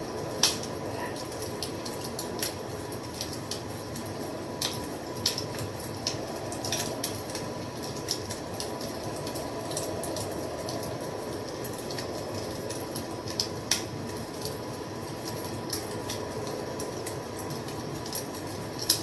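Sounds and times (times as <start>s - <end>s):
low rush of flame: 0.0s - 18.9s
fire crackling and popping: 0.0s - 19.0s.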